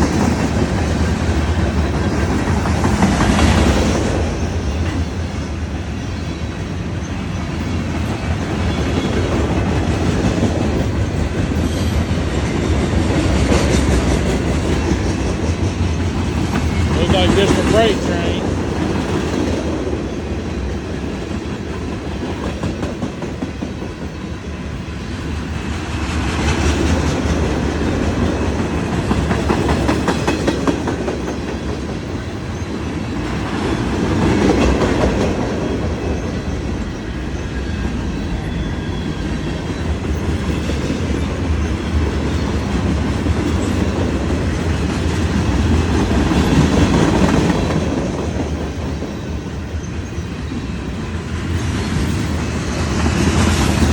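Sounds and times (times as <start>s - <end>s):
train wheels clicking over rail joints: 0.0s - 37.8s, 39.0s - 53.9s
low train rumble: 0.0s - 53.9s.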